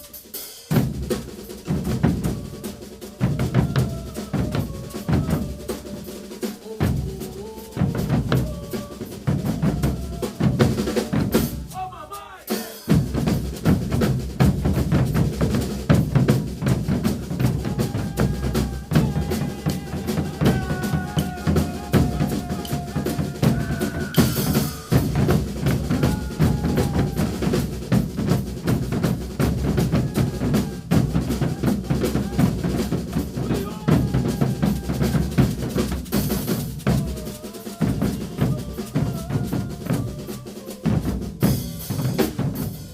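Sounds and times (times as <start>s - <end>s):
percussion ensemble drumming: 0.0s - 42.9s.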